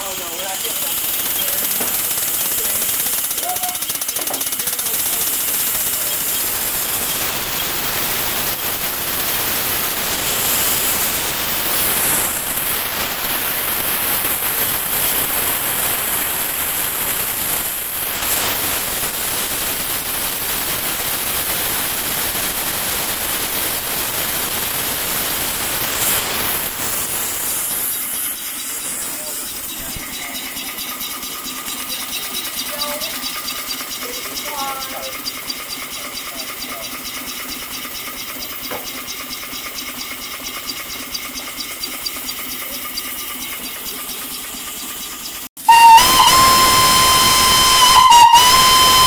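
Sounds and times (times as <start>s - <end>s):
steam engine exhaust hissing: 0.0s - 49.0s.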